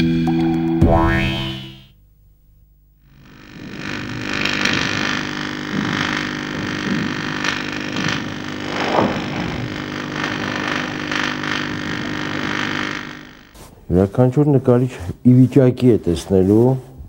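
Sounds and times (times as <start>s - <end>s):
electric arc buzzing and crackling: 2.6s - 16.8s.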